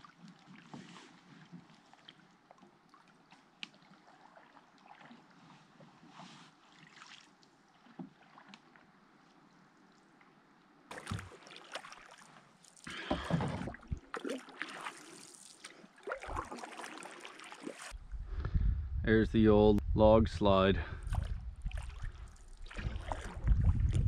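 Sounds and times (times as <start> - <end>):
paddle splashing water: 0.0 - 10.2, 10.9 - 18.0, 21.1 - 24.0.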